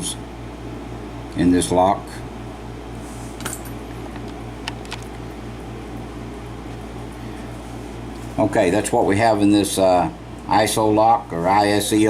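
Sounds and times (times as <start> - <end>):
pulsing fan-like hum: 0.0 - 12.0.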